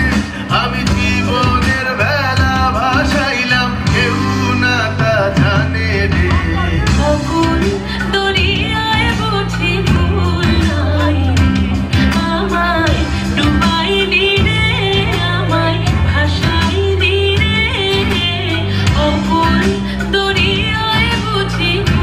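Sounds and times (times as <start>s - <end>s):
song over sound system: 0.0s - 22.0s.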